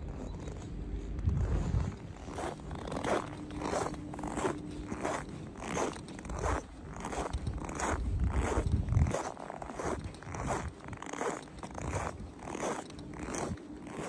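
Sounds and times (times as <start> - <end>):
footsteps crunching in snow: 0.1 - 14.0.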